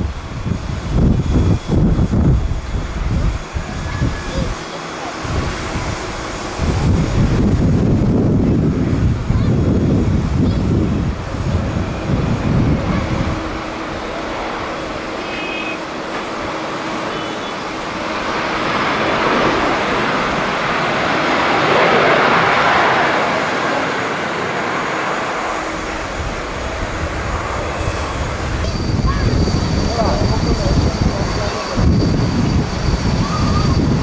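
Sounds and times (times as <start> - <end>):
jet engines at takeoff: 0.0 - 34.0
wind buffeting microphone: 0.0 - 34.0.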